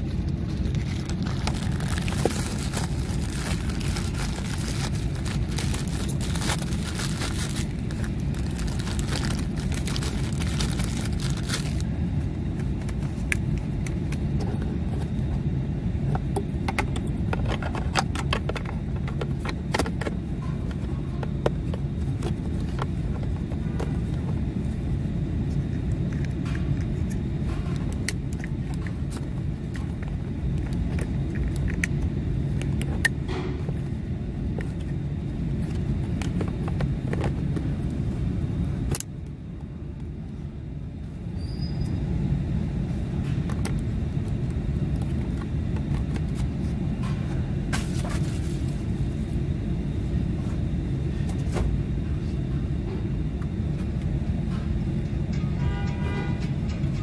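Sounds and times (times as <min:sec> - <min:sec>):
steady low rumble: 0:00.0 - 0:55.6.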